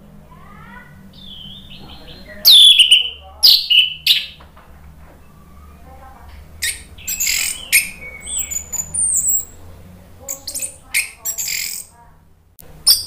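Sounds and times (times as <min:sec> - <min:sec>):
thrush singing: 0:00.0 - 0:12.0.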